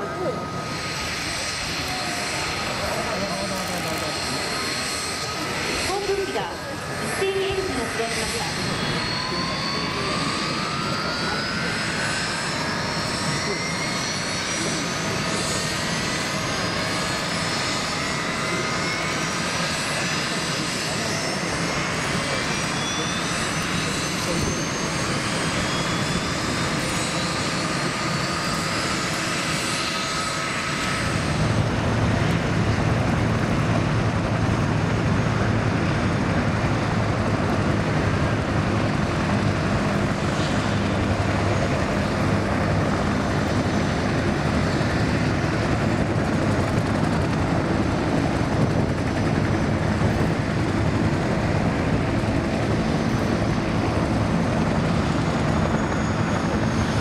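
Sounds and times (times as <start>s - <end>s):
deep drone of engines and rotors: 0.0s - 57.0s
helicopter turbines whining: 0.0s - 57.0s.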